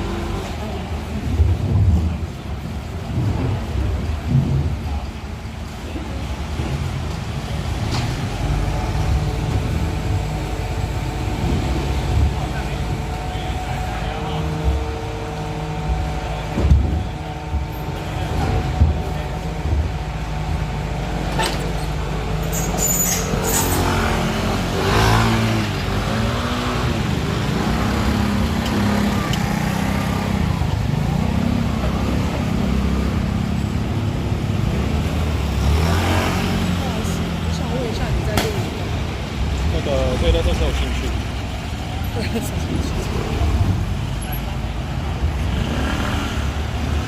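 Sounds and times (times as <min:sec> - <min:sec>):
garbage truck diesel engine: 0:00.0 - 0:47.0.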